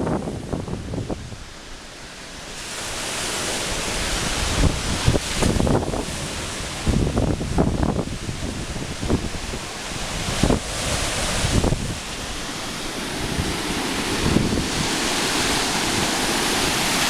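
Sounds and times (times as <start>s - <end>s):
waves washing in: 0.0s - 17.0s
wind buffeting microphone: 0.0s - 17.0s.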